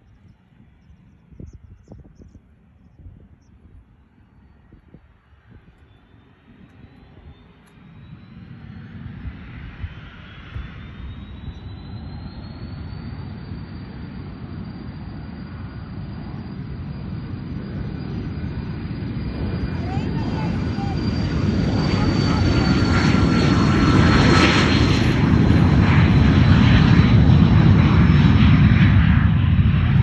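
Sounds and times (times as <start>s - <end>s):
jet engine whine: 0.0s - 30.0s
jet rumble: 0.0s - 30.0s.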